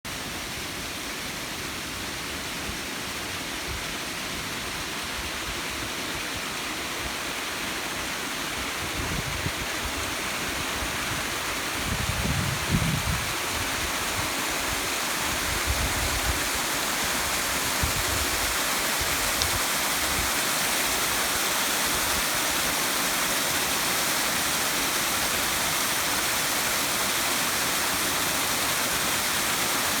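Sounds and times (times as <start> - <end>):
waterfall splashing: 0.1 - 30.0.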